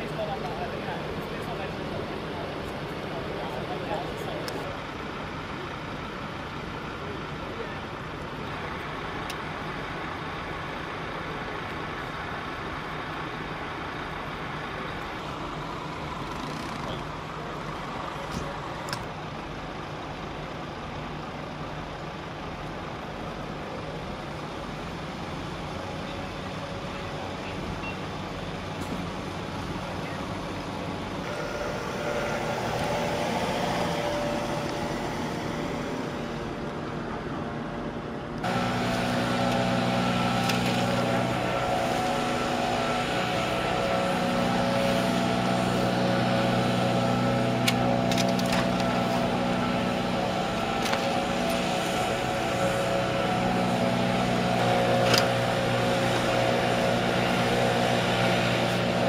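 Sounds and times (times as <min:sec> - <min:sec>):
diesel engine droning: 0:00.0 - 0:59.0
engine idling hum: 0:00.0 - 0:59.0.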